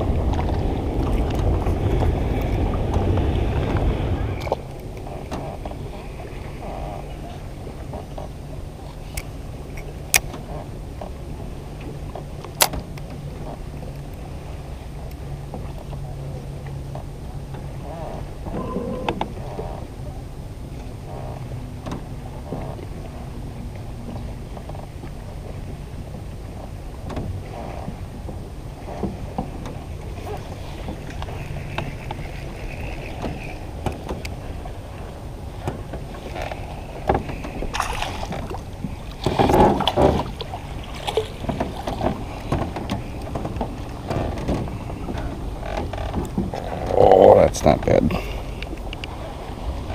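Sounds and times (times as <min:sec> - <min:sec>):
low hum: 0:00.0 - 0:49.9
wind rumbling on microphone: 0:00.0 - 0:49.9.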